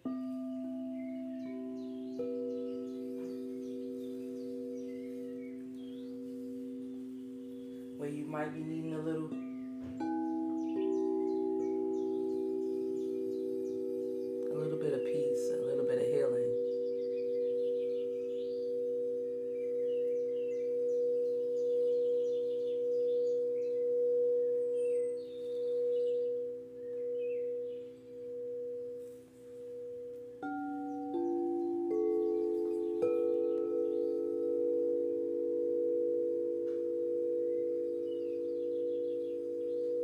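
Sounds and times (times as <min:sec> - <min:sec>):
faint birds chirping: 0:00.0 - 0:40.0
singing bowls being struck: 0:00.0 - 0:40.0
singing bowls ringing: 0:00.0 - 0:40.0.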